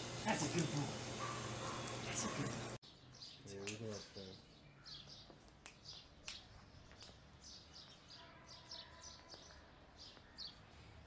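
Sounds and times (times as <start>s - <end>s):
faint birds chirping: 0.5s - 11.0s.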